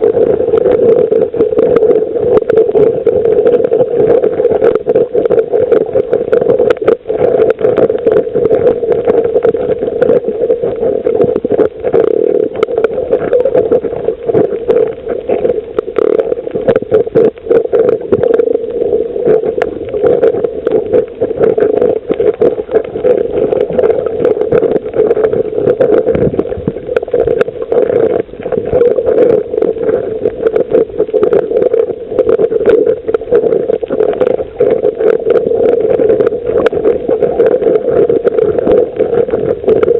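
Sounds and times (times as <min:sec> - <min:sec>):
dense crackle of tiny clicks: 0:00.0 - 0:39.9
underwater hum: 0:00.0 - 0:39.9.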